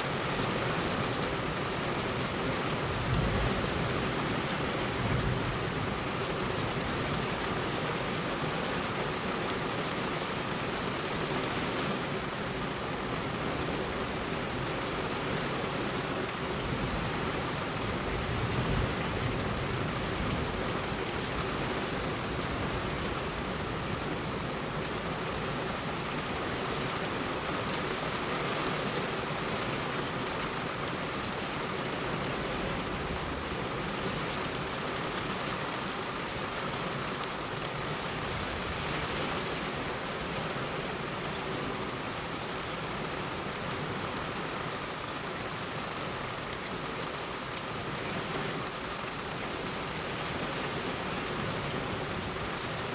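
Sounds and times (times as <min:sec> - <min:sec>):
heavy rain on road: 0:00.0 - 0:52.9.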